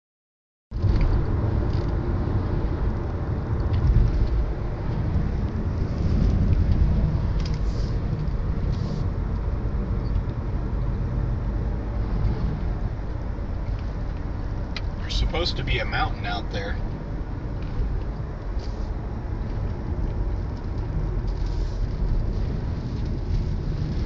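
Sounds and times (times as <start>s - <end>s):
gusty wind buffeting microphone: 0.7s - 15.0s, 16.8s - 24.0s.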